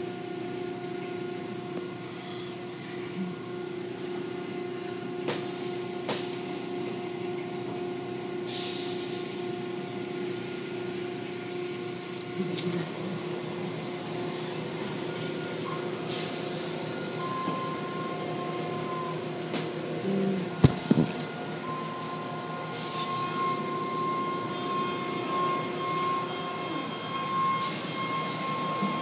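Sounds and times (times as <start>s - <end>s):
car wash machinery hum: 0.0s - 29.0s.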